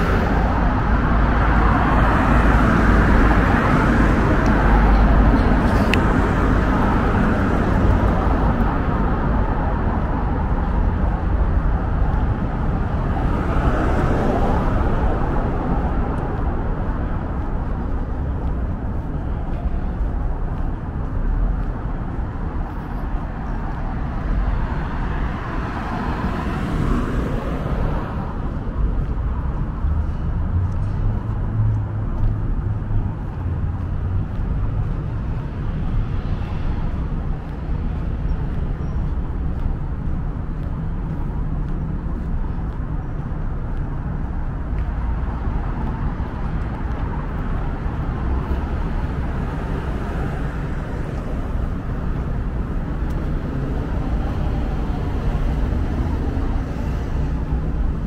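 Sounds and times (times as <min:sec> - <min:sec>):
traffic rumble: 0:00.0 - 0:58.0
vehicles passing: 0:00.0 - 0:58.0.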